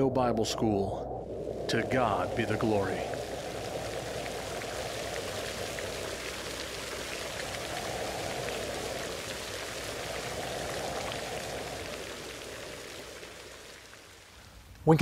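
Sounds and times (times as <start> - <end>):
steady rain rushing: 0.6 - 15.0
single raindrops ticking: 1.3 - 15.0.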